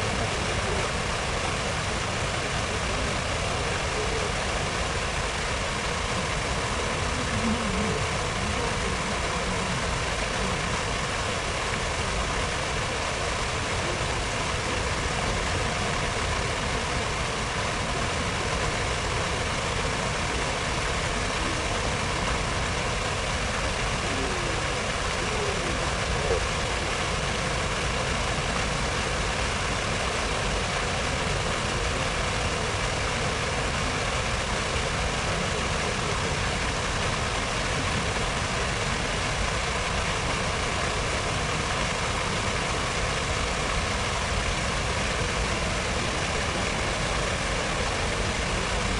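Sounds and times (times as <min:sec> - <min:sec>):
fountain water rushing: 0:00.0 - 0:48.9.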